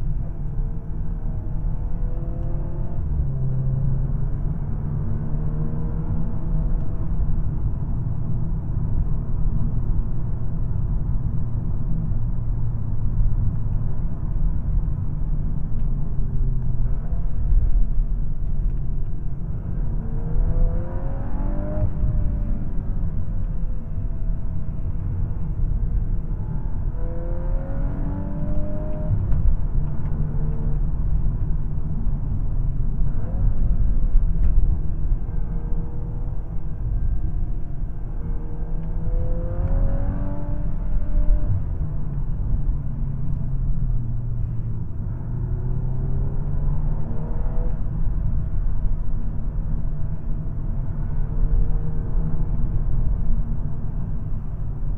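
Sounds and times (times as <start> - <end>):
car engine accelerating: 0.0 - 54.9
road rumble: 0.0 - 54.9.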